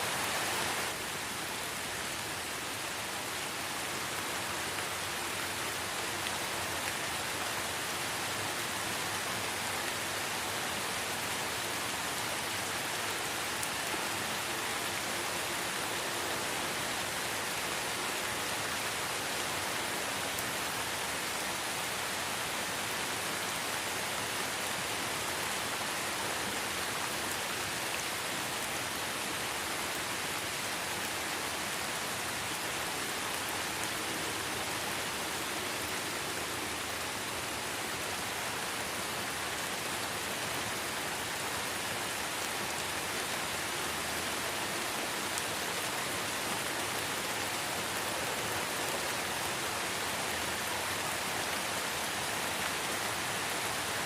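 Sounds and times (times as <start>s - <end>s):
light rain in forest: 0.0s - 54.0s.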